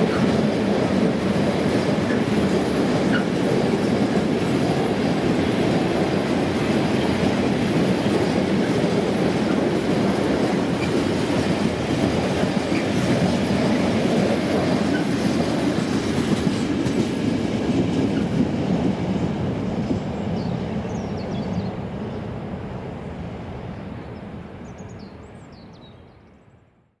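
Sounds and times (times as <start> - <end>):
freight train rumbling on rails: 0.0 - 26.2.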